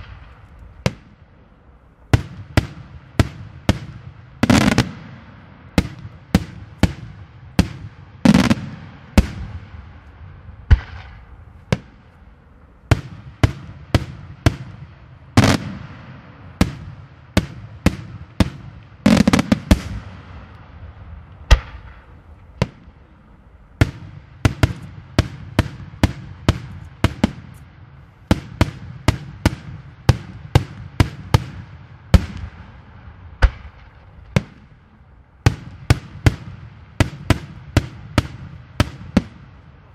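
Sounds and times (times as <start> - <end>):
fireworks bangs: 0.0 - 1.4, 2.1 - 12.2, 12.9 - 39.9
echoing firework blasts: 0.0 - 39.9.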